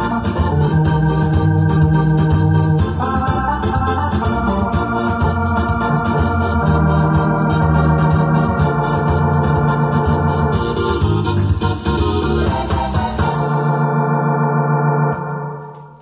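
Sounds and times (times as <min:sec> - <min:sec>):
electronic keyboard melody and chords: 0:00.0 - 0:16.0.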